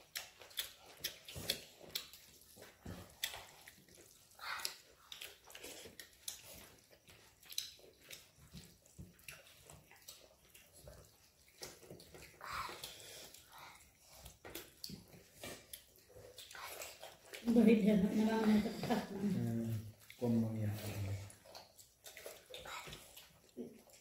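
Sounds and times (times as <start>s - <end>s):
mouth smacks and chewing: 0.0s - 17.5s, 19.8s - 24.0s
wet squelches of food mixing: 0.0s - 24.0s.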